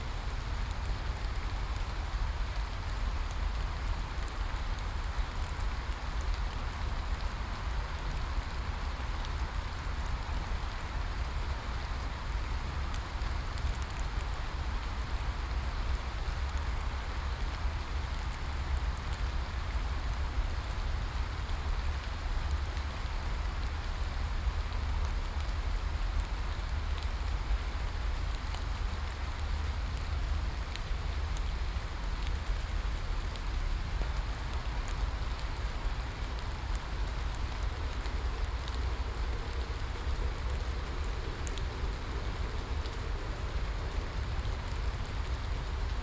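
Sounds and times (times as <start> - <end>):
steady rain hiss: 0.0 - 46.0
rain drop ticks: 0.1 - 46.0.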